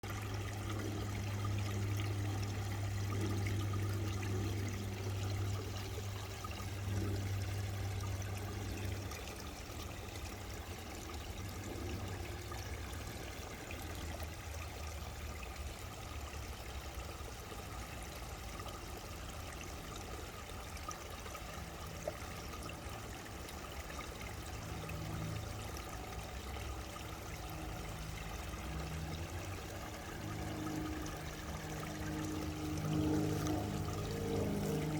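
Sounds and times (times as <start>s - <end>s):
brook water running and splashing: 0.0s - 34.9s.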